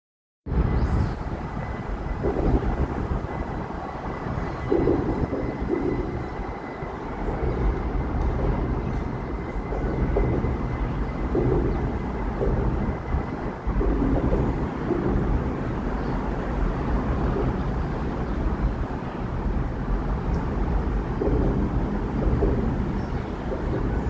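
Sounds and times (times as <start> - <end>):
train rumbling: 0.5 - 24.0.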